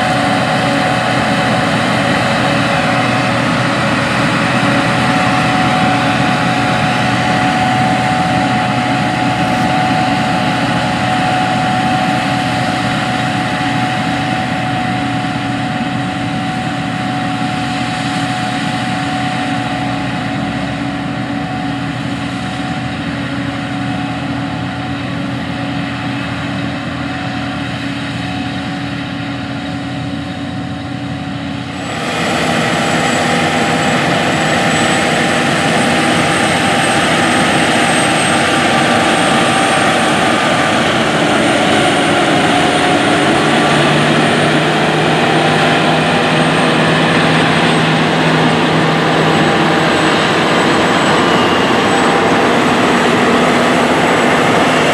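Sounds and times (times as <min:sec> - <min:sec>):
harvester and tractor engines: 0:00.0 - 0:54.9
machinery whining tones: 0:00.0 - 0:54.9.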